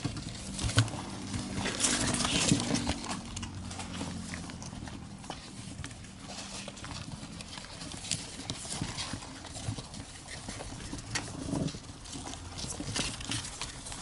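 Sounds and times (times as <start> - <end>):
hamster claws scratching: 0.0 - 14.0
paper rustling: 0.0 - 14.0.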